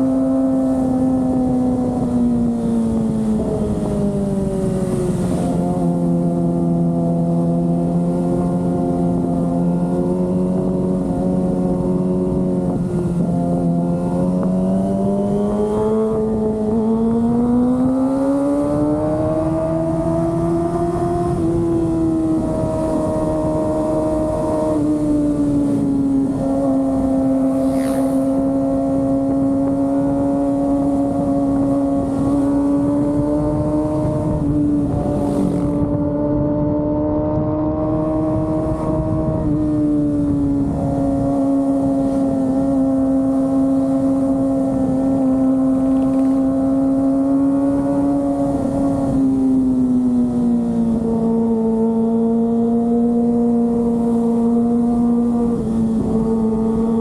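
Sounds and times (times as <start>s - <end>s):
motorcycle engine at high revs: 0.0s - 57.0s
wind noise: 0.0s - 57.0s.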